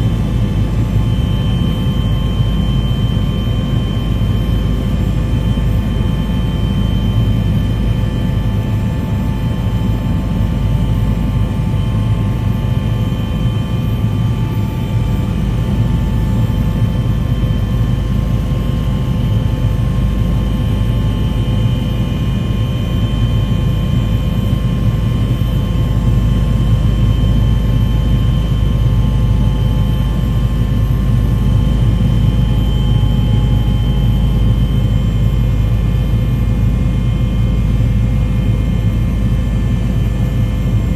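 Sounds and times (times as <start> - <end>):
aircraft engine drone: 0.0 - 40.9.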